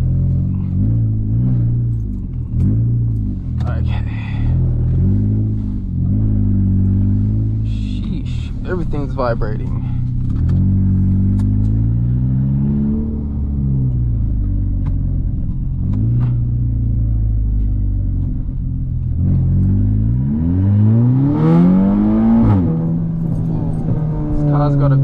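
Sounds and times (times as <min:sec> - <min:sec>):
car engine droning and revving: 0:00.0 - 0:25.0.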